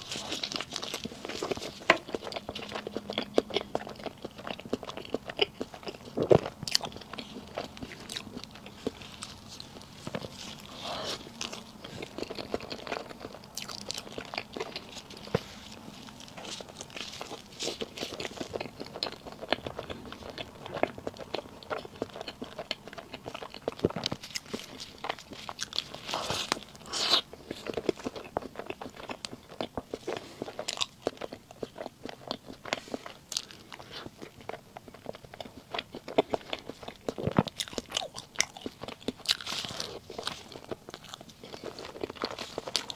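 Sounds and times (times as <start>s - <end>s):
person crunching and chewing: 0.0s - 42.9s.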